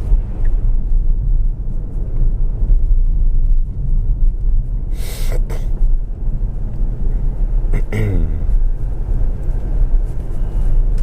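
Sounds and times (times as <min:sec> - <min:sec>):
road and tyre rumble in car cabin: 0:00.0 - 0:11.0.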